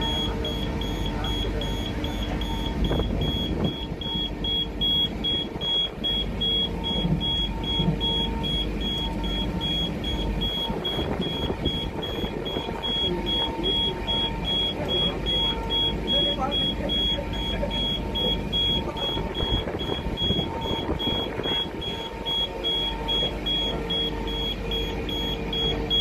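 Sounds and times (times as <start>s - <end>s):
high electronic beeps: 0.0s - 26.0s.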